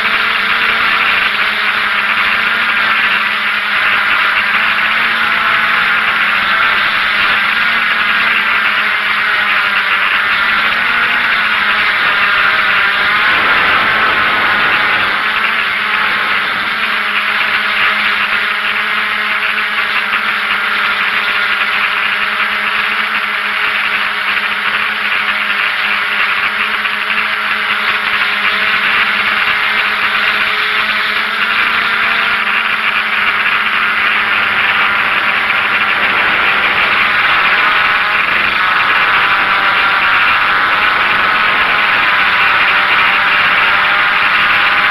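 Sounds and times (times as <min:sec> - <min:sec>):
drone motors buzzing: 0:00.0 - 0:44.9.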